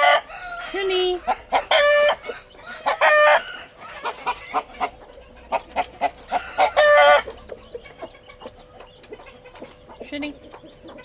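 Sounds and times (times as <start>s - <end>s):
chickens clucking: 0.0s - 11.0s
chickens squawking: 0.0s - 11.0s.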